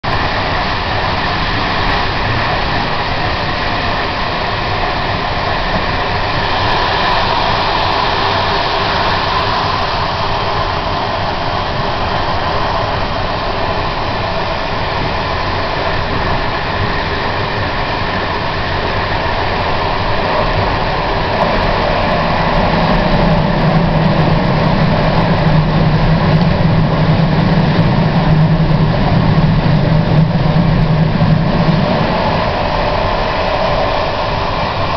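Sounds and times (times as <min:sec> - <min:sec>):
low hum: 0:00.0 - 0:34.9
metro train rumbling: 0:00.0 - 0:34.9.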